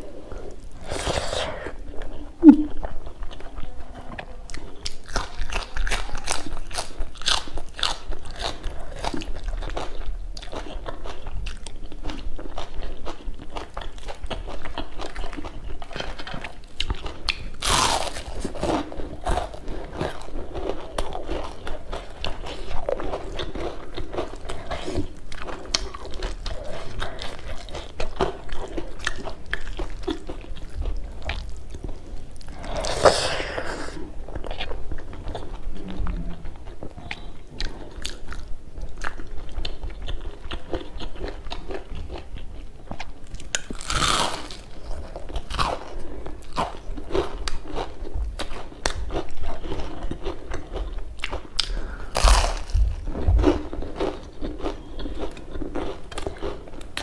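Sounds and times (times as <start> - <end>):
crunching and chewing fried food: 2.0 - 57.0.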